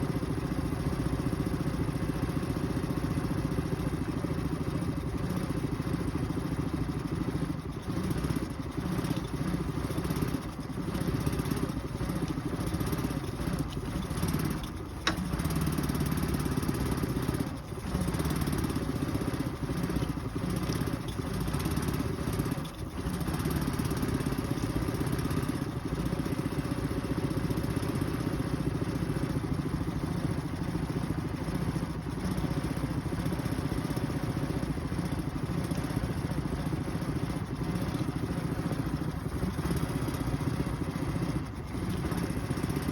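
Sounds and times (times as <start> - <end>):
outboard motor idling unevenly: 0.0 - 42.9.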